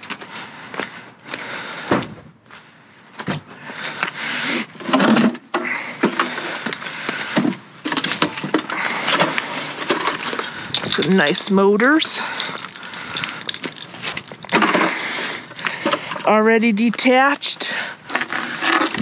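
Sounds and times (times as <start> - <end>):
clattering and rustling of objects: 0.0 - 19.0.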